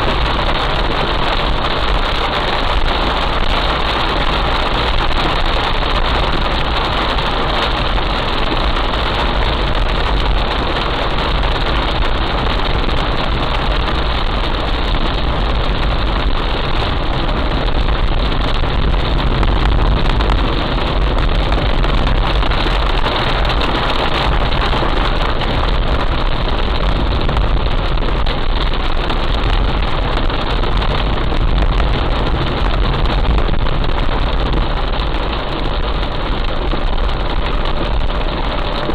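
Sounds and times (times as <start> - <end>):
heavy rain: 0.0 - 38.9
vehicle engine rumbling: 0.0 - 38.9.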